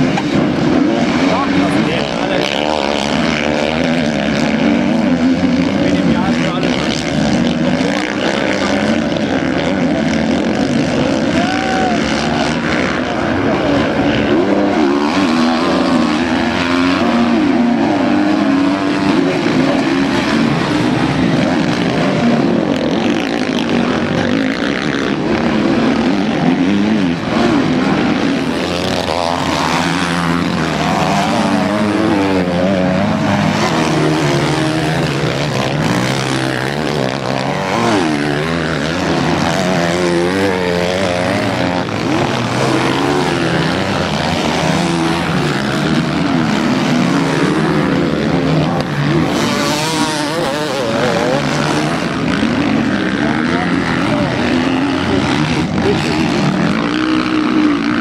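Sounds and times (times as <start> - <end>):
motocross bikes racing past: 0.0 - 58.0.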